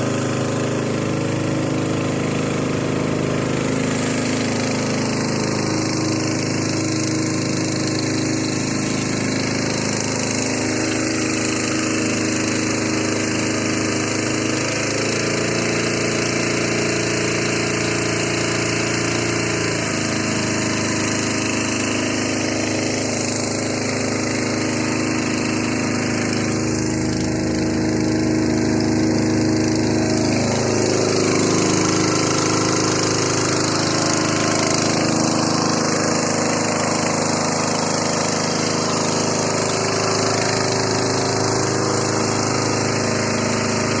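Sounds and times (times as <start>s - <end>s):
motor boat engine running: 0.0s - 44.0s.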